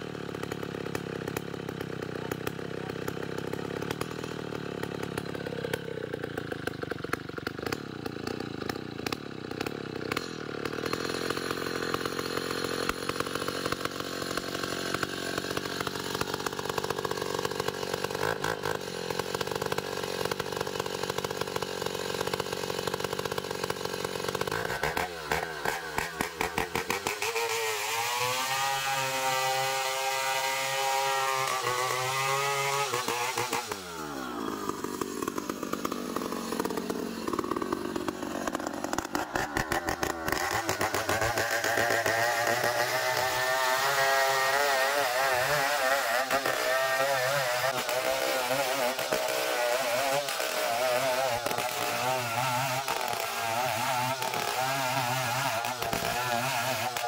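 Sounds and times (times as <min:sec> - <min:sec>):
chainsaw sawing timber: 0:00.0 - 0:57.0.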